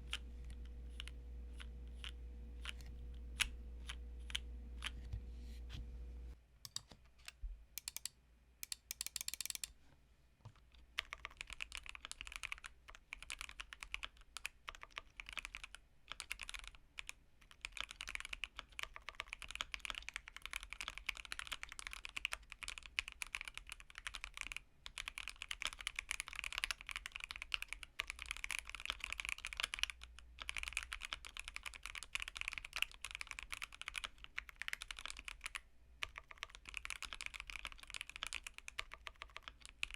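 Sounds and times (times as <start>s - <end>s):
mechanical keyboard typing: 0.1s - 5.1s, 6.7s - 9.7s, 11.0s - 39.9s.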